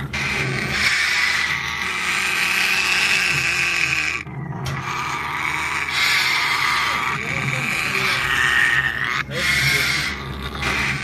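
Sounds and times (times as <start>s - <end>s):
parrots making harsh hissing calls: 0.0s - 11.0s.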